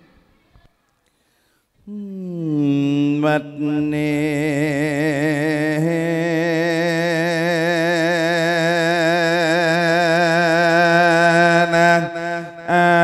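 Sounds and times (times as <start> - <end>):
man singing long chant note: 1.9 - 13.0.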